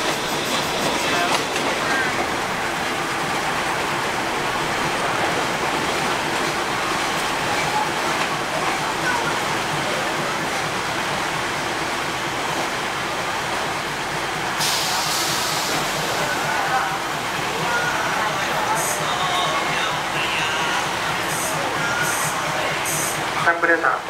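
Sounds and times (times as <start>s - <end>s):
train rolling along a platform: 0.0s - 24.0s.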